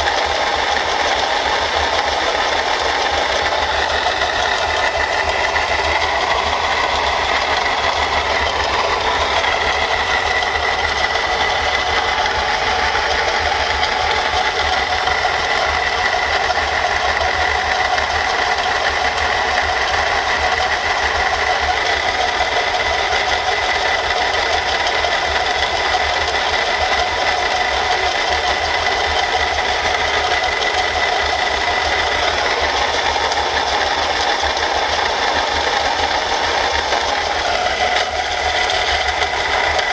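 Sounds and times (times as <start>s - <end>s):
car engine rattling: 0.0s - 39.9s
water pump whine: 0.0s - 39.9s.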